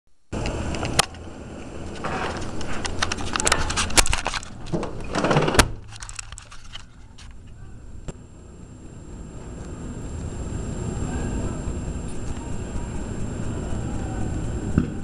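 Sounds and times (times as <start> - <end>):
electrical fire crackling: 0.3 - 15.0.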